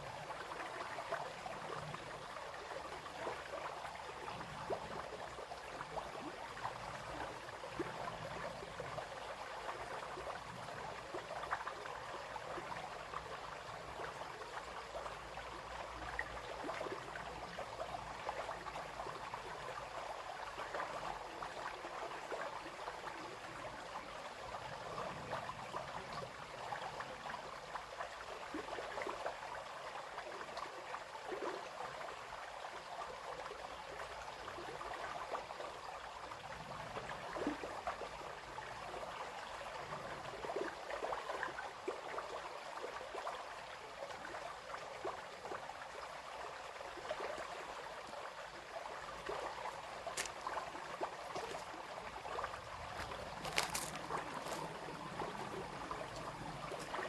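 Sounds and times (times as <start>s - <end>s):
brook babbling over stones: 0.0s - 57.0s.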